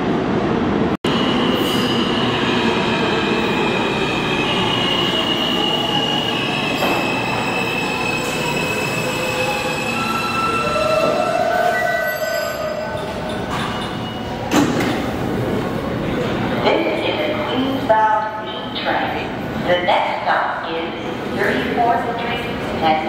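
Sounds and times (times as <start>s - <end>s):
subway train rumble: 0.0s - 23.0s.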